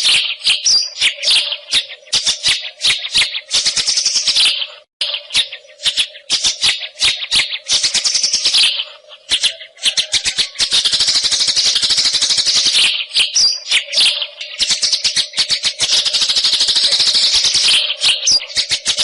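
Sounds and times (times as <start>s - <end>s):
bird singing rattling chatter: 0.0s - 19.0s.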